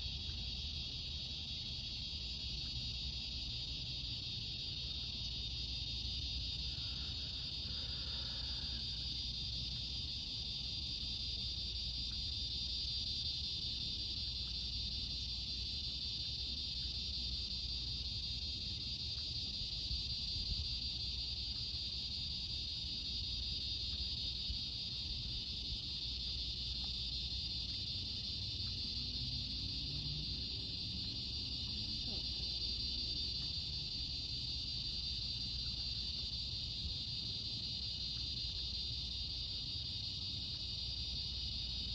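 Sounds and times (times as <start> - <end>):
insects chirping chorus: 0.0 - 41.9.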